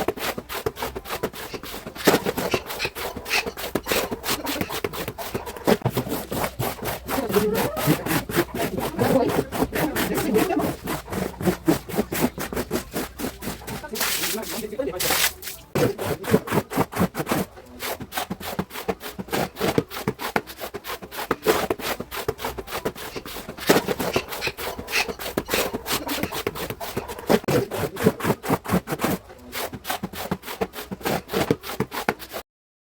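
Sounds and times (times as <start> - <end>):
stiff brush scrubbing: 0.0 - 32.4.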